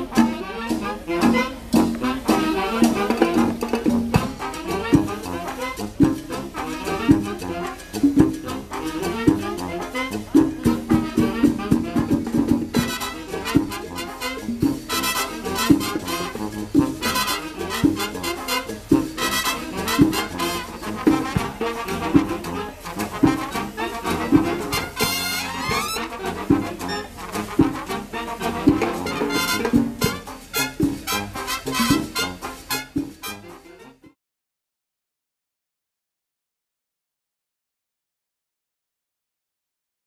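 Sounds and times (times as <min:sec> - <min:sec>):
congas beat: 0:00.0 - 0:34.2
high brass passage: 0:00.0 - 0:34.2
live latin band playing: 0:00.0 - 0:34.2.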